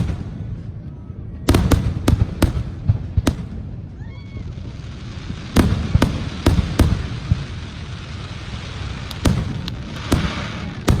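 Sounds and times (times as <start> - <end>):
fireworks bangs: 0.0 - 11.0
fireworks crackling hiss: 1.6 - 11.0.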